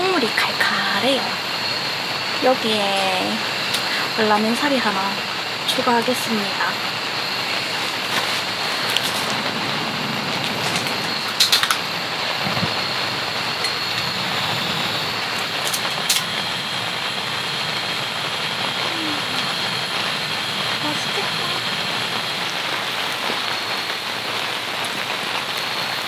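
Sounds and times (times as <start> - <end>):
rain falling on a tent: 0.0 - 26.0.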